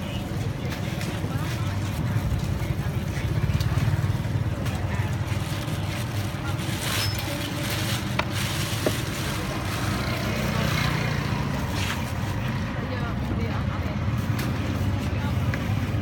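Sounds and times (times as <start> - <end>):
street traffic engine rumble: 0.0 - 16.0.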